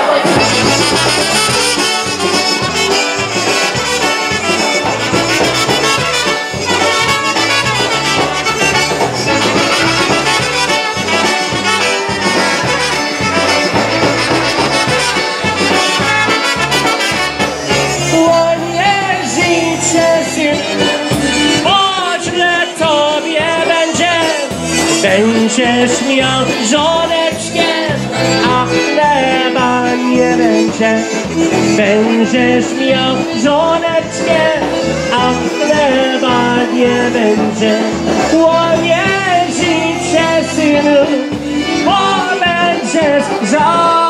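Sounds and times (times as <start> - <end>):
trumpets: 0.0 - 42.4
polka band playing: 0.0 - 44.0.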